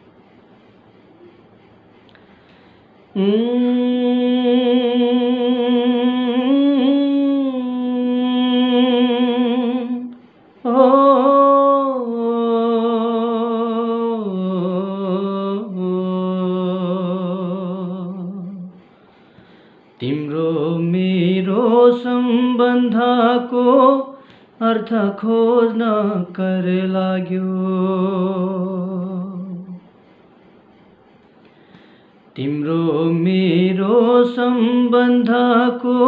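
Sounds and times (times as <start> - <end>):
man singing wordless notes: 3.2 - 18.8, 20.0 - 29.8, 32.4 - 36.0.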